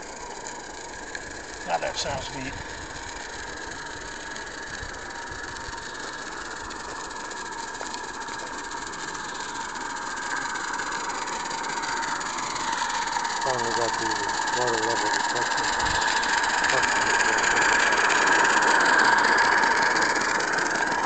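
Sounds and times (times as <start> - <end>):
locomotive whine: 0.0 - 21.0
steam hissing: 0.0 - 21.0.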